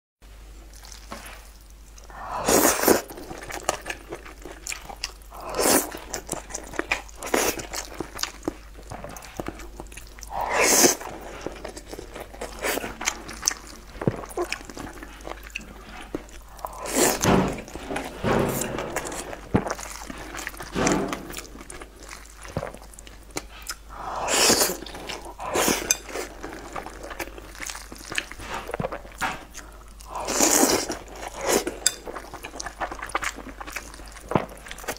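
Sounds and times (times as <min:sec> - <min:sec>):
chewing soft saucy food: 0:00.5 - 0:34.9.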